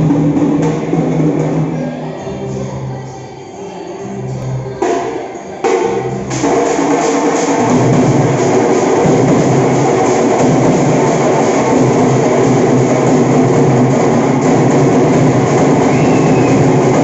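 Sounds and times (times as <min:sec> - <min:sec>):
drums playing loudly: 0:00.0 - 0:02.5, 0:04.8 - 0:17.0.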